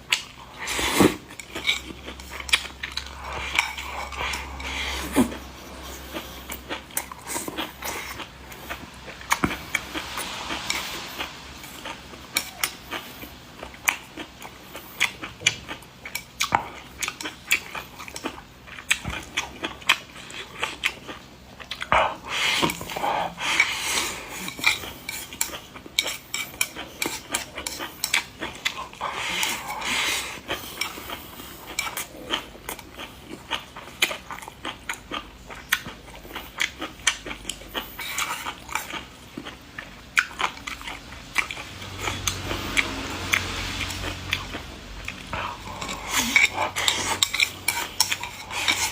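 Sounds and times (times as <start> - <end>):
noisy eating: 0.0 - 48.9.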